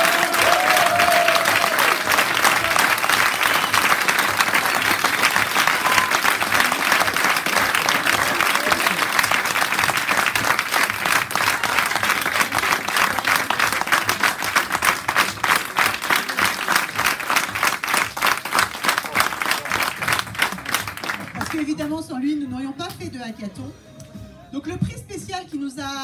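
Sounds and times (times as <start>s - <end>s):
audience applauding: 0.0s - 21.9s.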